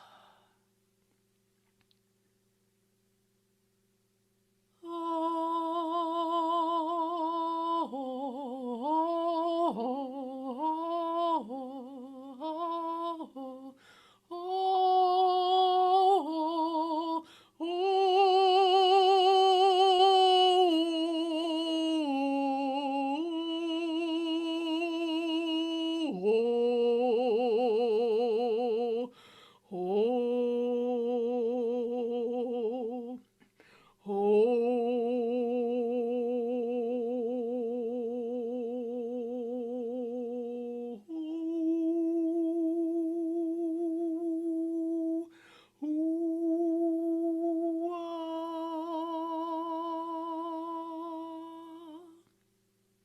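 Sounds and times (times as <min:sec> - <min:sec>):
person singing wordless tones: 0:04.8 - 0:29.1, 0:29.7 - 0:33.4, 0:34.0 - 0:52.3.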